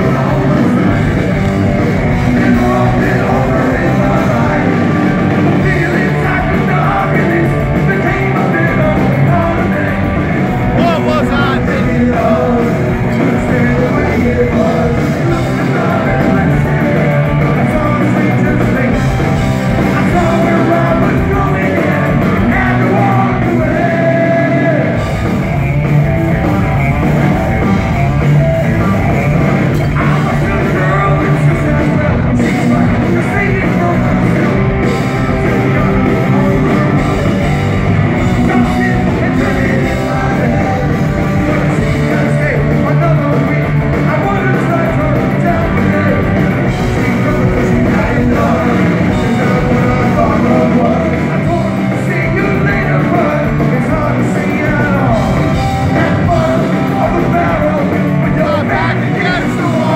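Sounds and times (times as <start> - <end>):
punk rock band playing live: 0.0 - 59.9.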